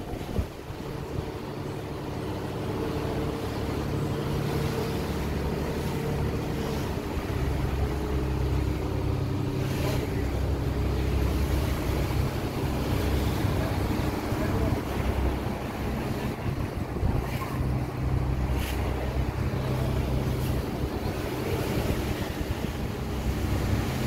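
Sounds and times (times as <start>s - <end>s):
boat engine humming: 0.0s - 24.0s
water rushing past hull: 0.0s - 24.0s.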